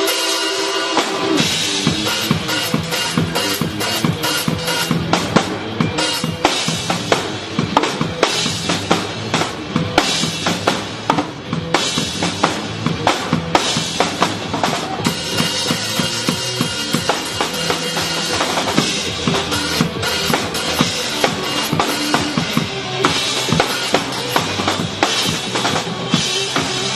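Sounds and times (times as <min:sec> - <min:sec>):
drum kit beat: 0:00.0 - 0:26.9.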